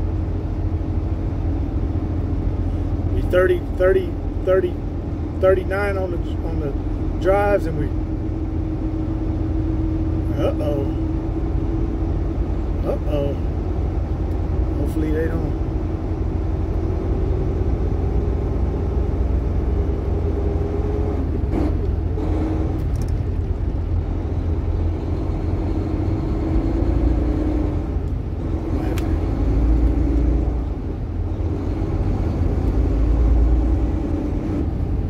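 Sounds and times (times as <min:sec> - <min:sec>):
truck diesel engine rumble: 0:00.0 - 0:35.0.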